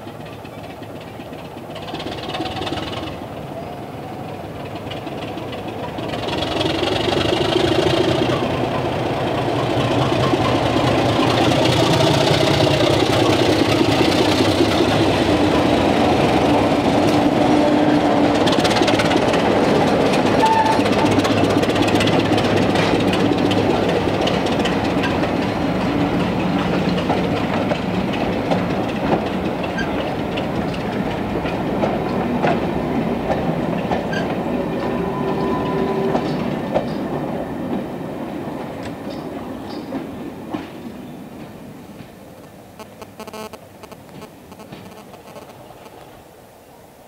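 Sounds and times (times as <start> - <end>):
train wheels clicking over rail joints: 0.0 - 43.0, 43.6 - 46.2
diesel locomotive engine running: 0.0 - 46.2.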